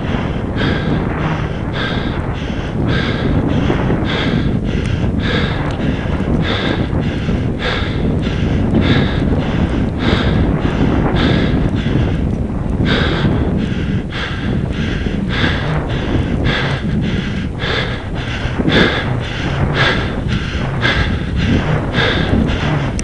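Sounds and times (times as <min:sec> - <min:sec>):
hard rhythmic breathing: 0:00.0 - 0:23.0
wind rumble on microphone: 0:00.0 - 0:23.0.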